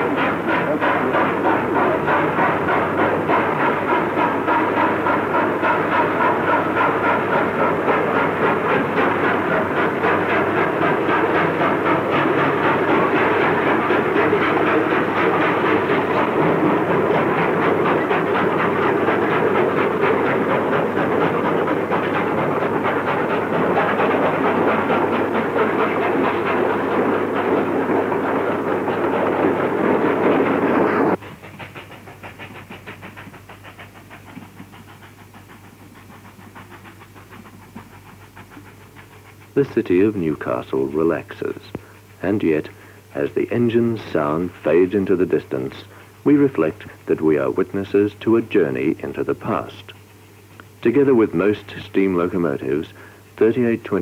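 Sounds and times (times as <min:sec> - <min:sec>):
steam train running: 0:00.0 - 0:54.0.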